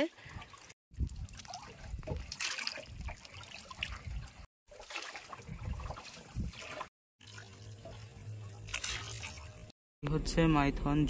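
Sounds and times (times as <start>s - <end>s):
water splashing around a boat: 0.0s - 9.7s.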